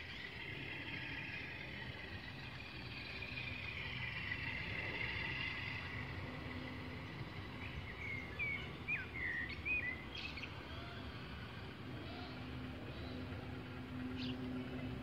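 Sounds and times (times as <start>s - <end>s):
outdoor background noise: 0.0s - 15.0s
songbird chirping: 0.0s - 15.0s.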